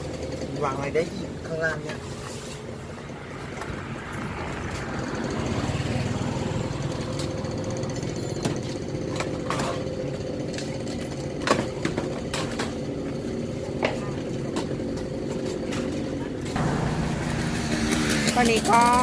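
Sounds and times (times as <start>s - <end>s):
engine rumbling: 0.0s - 19.0s.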